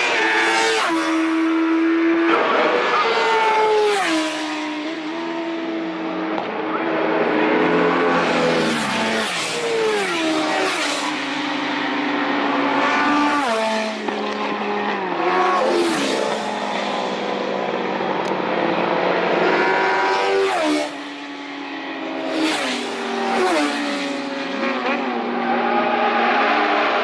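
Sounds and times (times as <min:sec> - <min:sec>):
racing motorcycles passing at speed: 0:00.0 - 0:27.0.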